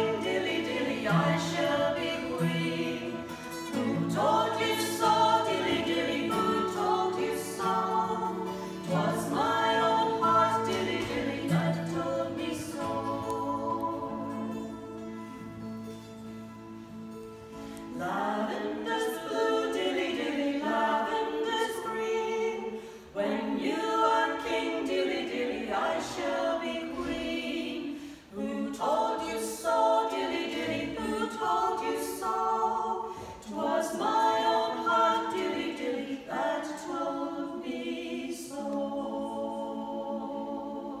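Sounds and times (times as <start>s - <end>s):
women singing in harmony: 0.0s - 15.6s, 17.6s - 41.0s
acoustic guitar: 0.0s - 41.0s.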